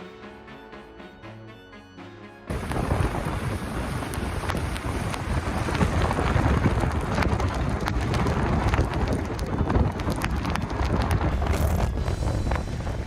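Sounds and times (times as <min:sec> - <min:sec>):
heavy precipitation striking surfaces: 0:02.5 - 0:13.0
wind buffeting microphone: 0:02.5 - 0:13.0.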